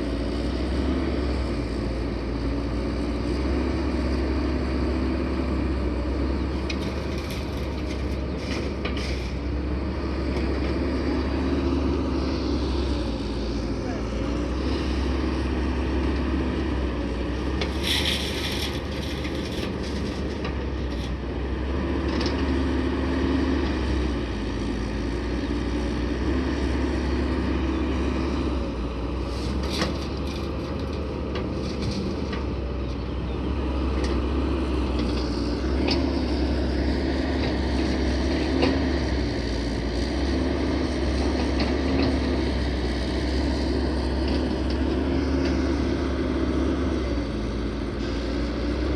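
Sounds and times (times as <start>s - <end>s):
heavy truck engine running: 0.0s - 48.9s.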